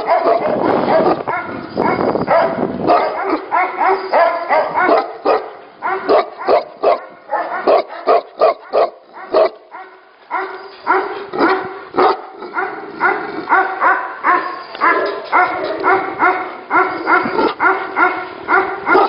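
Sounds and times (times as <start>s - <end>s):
dogs barking: 0.0s - 19.0s.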